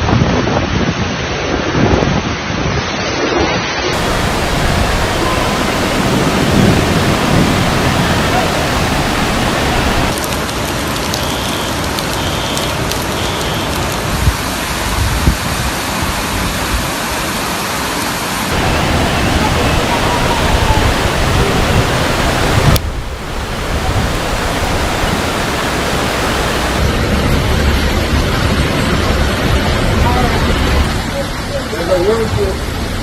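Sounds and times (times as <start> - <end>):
rushing wind and water: 0.0 - 33.0.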